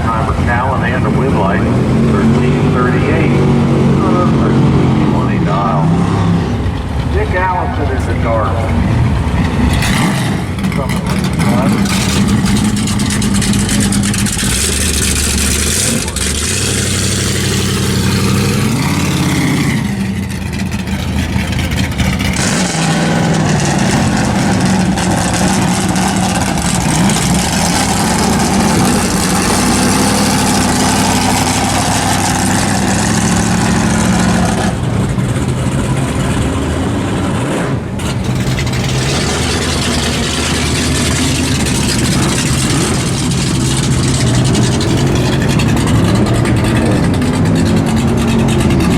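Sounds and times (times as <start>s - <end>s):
racing car engines revving: 0.0s - 48.9s.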